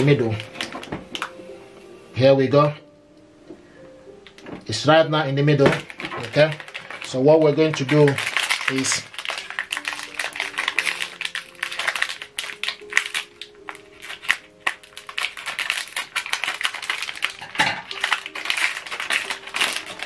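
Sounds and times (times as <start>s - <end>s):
plastic wrapper crinkling: 0.0s - 1.5s, 4.2s - 20.0s.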